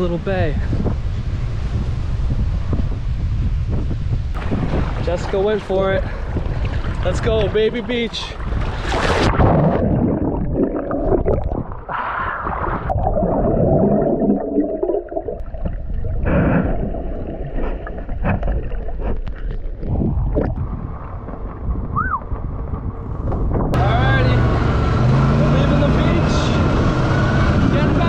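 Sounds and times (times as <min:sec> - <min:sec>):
muffled underwater rushing and gurgling: 0:00.0 - 0:23.6.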